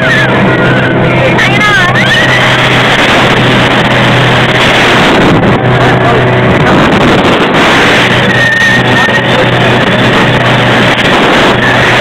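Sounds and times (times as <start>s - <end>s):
motorboat engine droning: 0.0s - 12.0s
water noise: 0.0s - 12.0s
wind on microphone: 0.0s - 12.0s.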